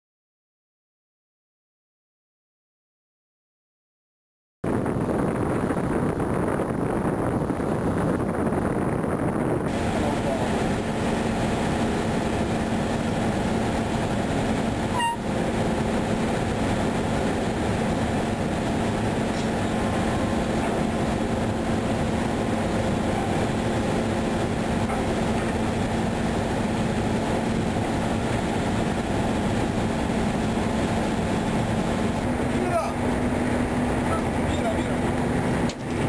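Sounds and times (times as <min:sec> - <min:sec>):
ship engine drone: 0:04.6 - 0:36.0.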